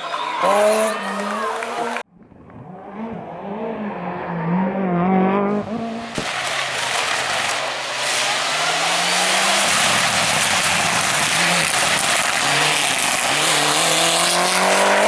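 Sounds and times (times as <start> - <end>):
tyre and road noise: 0.0 - 15.0
rally car engine accelerating: 1.7 - 15.0.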